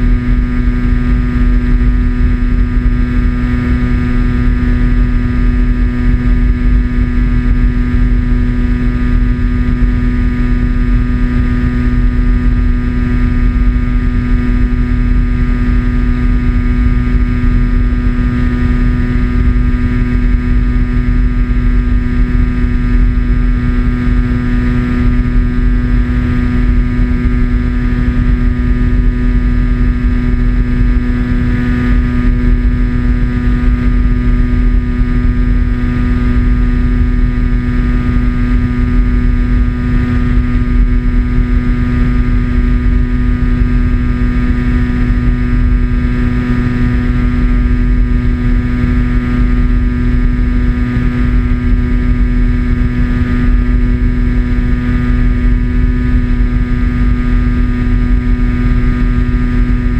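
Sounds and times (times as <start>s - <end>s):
wind rush over microphone: 0.0s - 59.9s.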